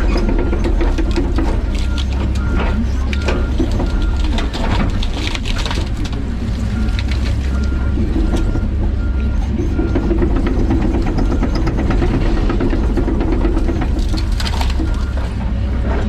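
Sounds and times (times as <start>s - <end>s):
knocks and clatter: 0.0s - 9.1s, 9.7s - 16.0s
excavator diesel engine running: 0.0s - 16.0s.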